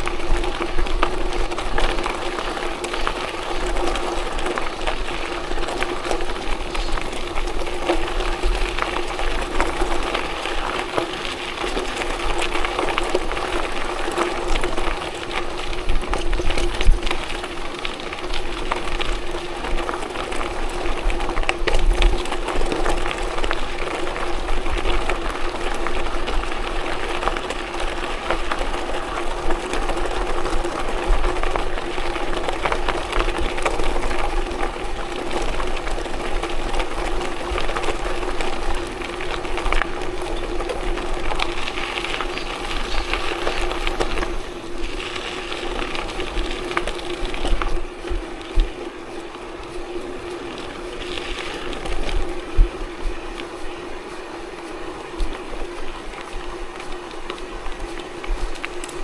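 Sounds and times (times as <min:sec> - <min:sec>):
vehicle driving on gravel road: 0:00.0 - 0:59.0
wind rumbling on microphone: 0:00.0 - 0:59.0.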